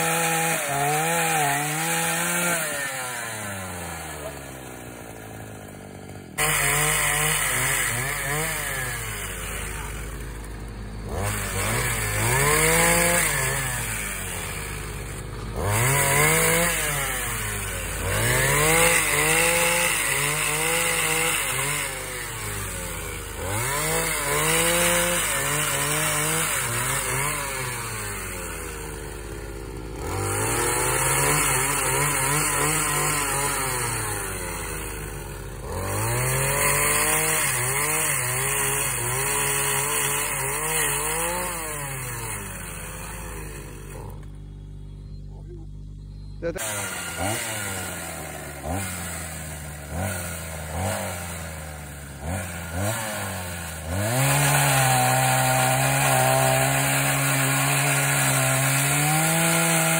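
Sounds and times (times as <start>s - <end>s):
brushcutter engine revving: 0.0s - 59.9s
pole saw cutting branches: 0.0s - 59.9s.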